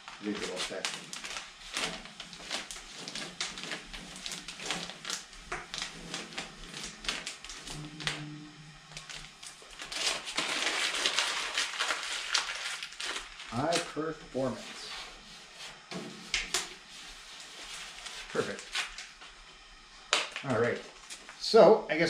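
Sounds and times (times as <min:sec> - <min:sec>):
tape crumpled by hand: 0:00.0 - 0:14.6, 0:16.2 - 0:21.4
transfer tape peeling crackle: 0:00.0 - 0:21.4.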